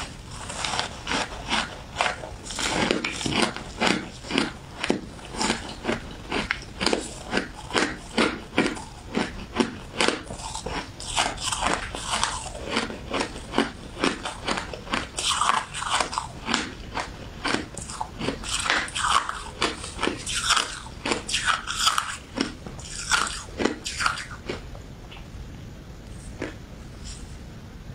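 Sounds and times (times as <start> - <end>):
ice being chewed: 0.0 - 25.2.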